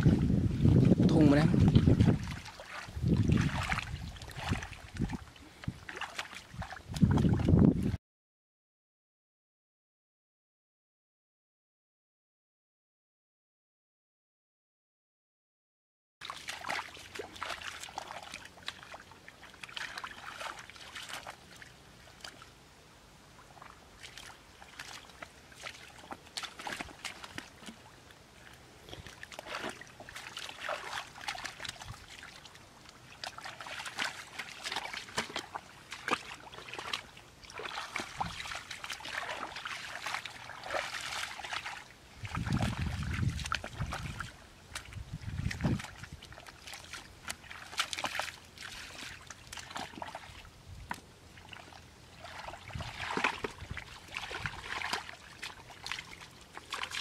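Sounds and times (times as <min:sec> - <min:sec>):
sloshing through muddy water: 0:00.0 - 0:08.0, 0:16.2 - 0:22.6, 0:23.3 - 0:57.0
small splashes and drips: 0:01.6 - 0:07.6, 0:16.2 - 0:22.6, 0:23.4 - 0:57.0.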